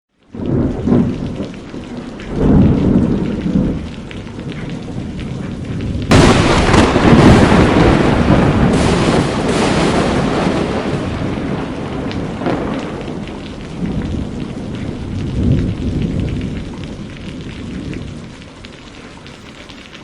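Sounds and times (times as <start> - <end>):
rain-like hiss: 0.2 - 20.0
scattered crackles: 0.2 - 20.0
thunder-like rumble: 0.3 - 20.0.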